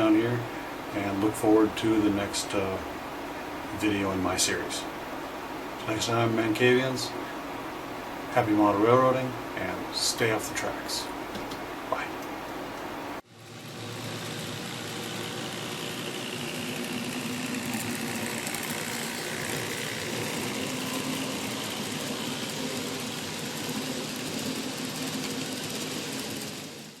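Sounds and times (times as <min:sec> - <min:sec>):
engine-like running noise: 0:00.0 - 0:27.0.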